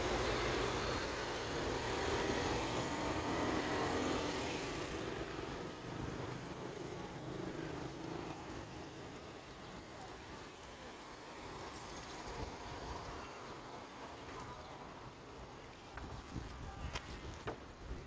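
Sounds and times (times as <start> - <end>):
faint outdoor background noise: 0.0 - 18.0
road traffic noise: 0.0 - 18.0.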